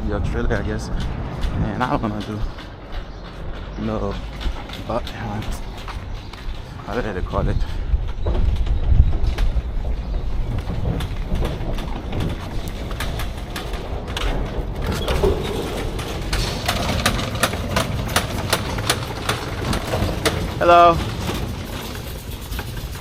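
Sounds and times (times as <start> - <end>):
vehicle engines idling: 0.0 - 8.2, 9.6 - 23.0.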